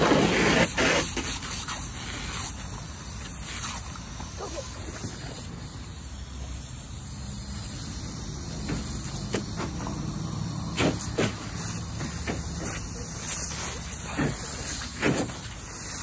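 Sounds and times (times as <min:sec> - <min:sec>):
garden hose spraying water: 0:00.0 - 0:16.0.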